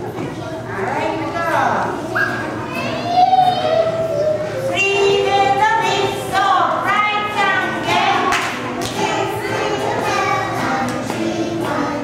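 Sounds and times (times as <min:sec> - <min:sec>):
young children singing: 0:01.9 - 0:12.0.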